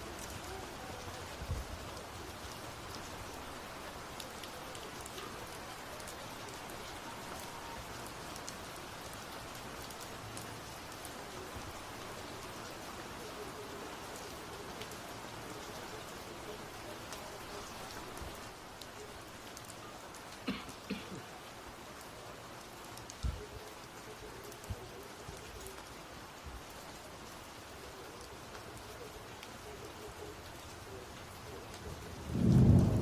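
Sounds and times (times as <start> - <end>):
steady rain patter: 0.0 - 33.0.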